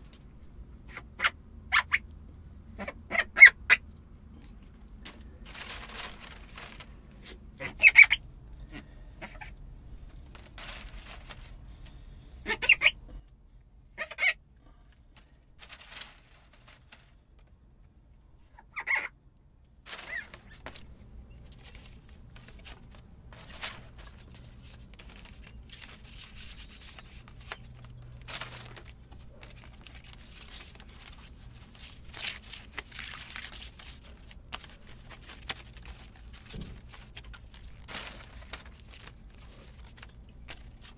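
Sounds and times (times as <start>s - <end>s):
faint background rustle: 3.8s - 18.7s, 19.6s - 40.9s.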